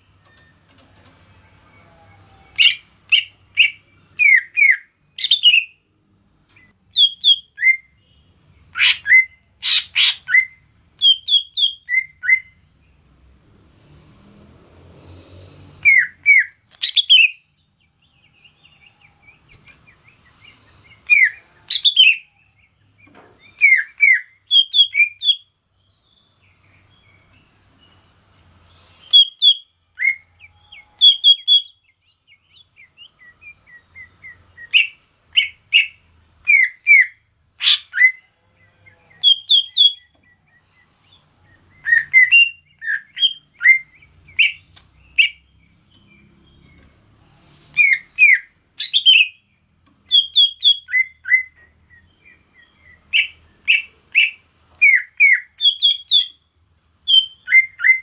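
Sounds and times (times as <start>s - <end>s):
bird singing whistled notes: 1.8s - 5.8s, 6.6s - 12.6s, 15.8s - 28.0s, 28.7s - 46.8s, 47.7s - 56.4s, 57.0s - 58.0s.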